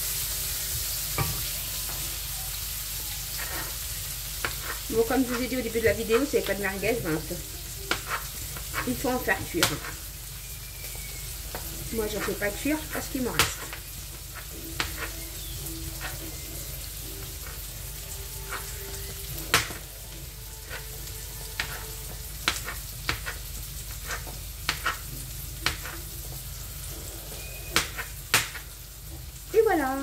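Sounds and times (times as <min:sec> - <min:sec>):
onions sizzling in a pan: 0:00.0 - 0:30.0.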